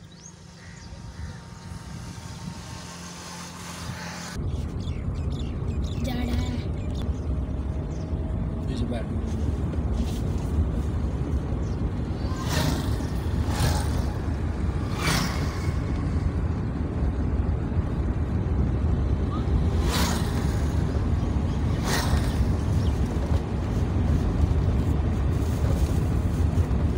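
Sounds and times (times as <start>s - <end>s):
car engine and tyre rumble: 0.0s - 26.9s.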